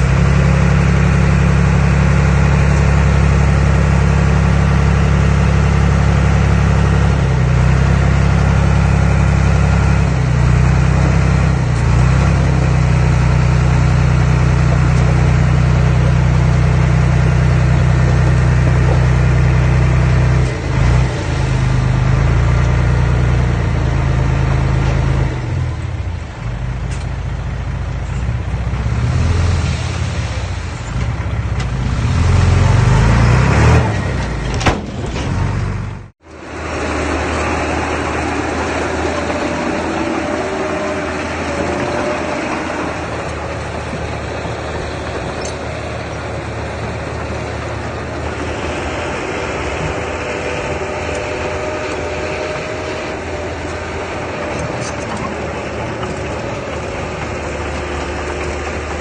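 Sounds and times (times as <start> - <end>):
heavy machine engine running: 0.0 - 59.0.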